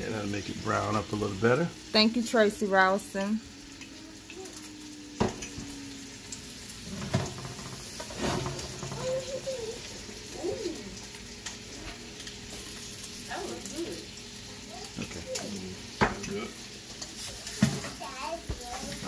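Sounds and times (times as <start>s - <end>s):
sausage sizzling in a pan: 0.0s - 19.0s.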